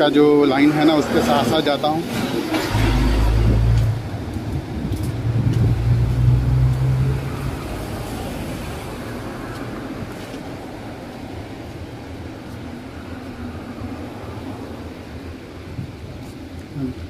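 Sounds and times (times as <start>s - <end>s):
bus diesel engine droning: 0.0s - 17.0s
street traffic noise: 0.0s - 17.0s.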